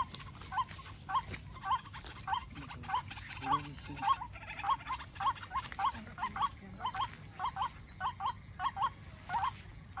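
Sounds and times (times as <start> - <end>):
waterhen calling: 0.0 - 10.0.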